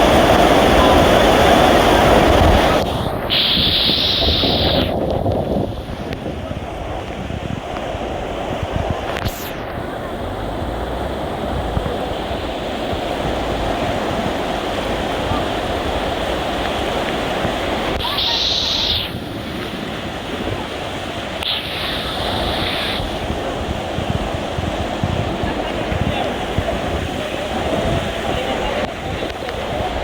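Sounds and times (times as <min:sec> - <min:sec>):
rough water: 0:00.0 - 0:30.0
wind rushing: 0:00.0 - 0:30.0
hissing surges: 0:00.1 - 0:06.0, 0:09.0 - 0:28.6.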